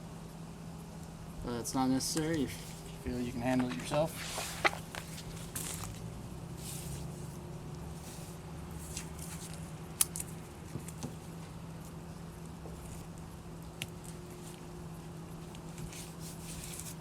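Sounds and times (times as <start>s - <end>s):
steady low hum: 0.0s - 17.0s
tape and decal rustling: 2.1s - 17.0s.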